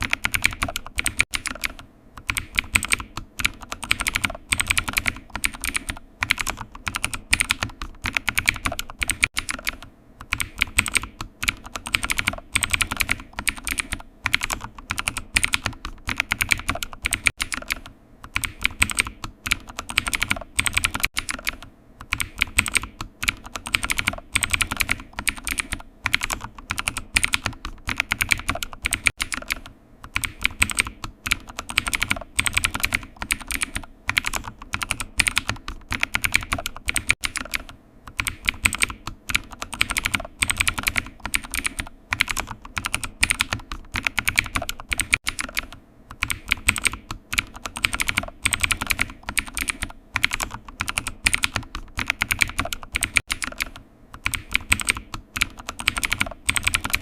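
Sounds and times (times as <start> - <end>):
computer keyboard typing: 0.0 - 57.0.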